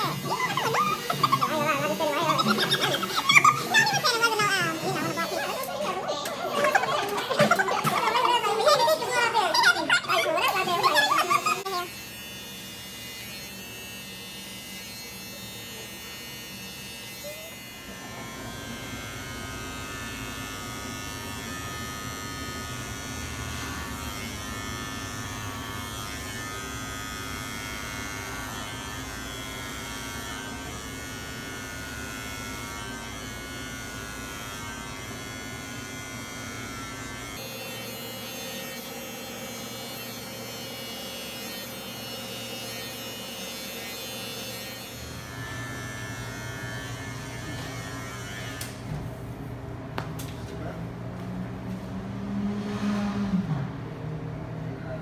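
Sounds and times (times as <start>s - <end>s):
electric hair clippers buzzing: 0.0s - 49.3s.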